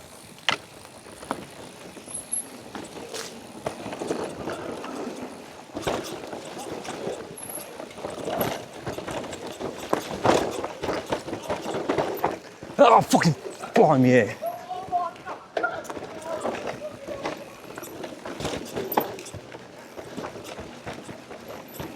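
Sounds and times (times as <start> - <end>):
bike knocking and rattling: 0.0 - 21.9.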